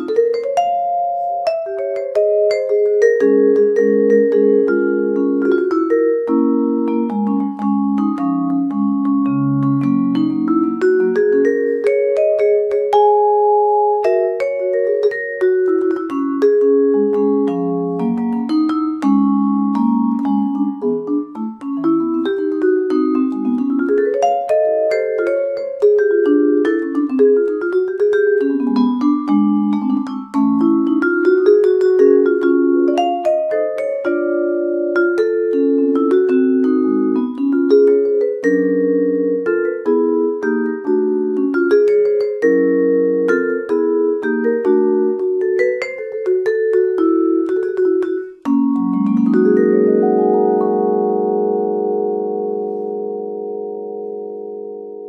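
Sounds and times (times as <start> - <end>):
vibraphone chords and runs: 0.0 - 55.0.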